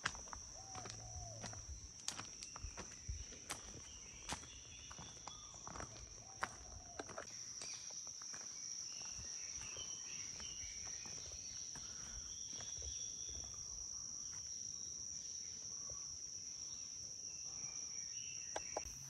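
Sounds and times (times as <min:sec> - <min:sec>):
insects trilling: 0:00.0 - 0:19.0
short insect chirps: 0:00.0 - 0:19.0.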